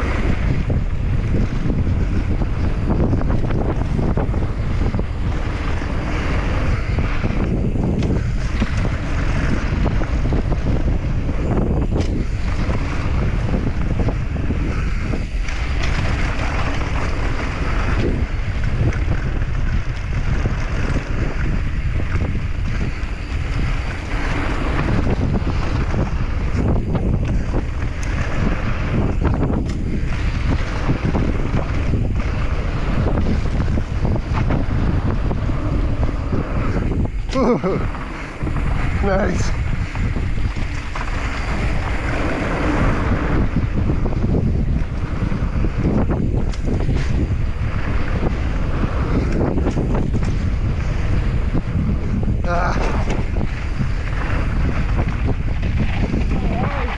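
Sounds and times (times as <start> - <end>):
tyres rattling over gravel: 0.0 - 56.9
wind buffeting microphone: 0.0 - 56.9.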